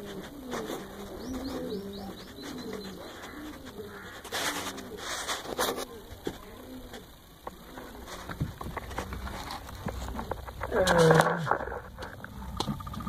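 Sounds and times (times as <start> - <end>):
pigeons cooing: 0.0 - 13.0
rustling: 0.0 - 13.0.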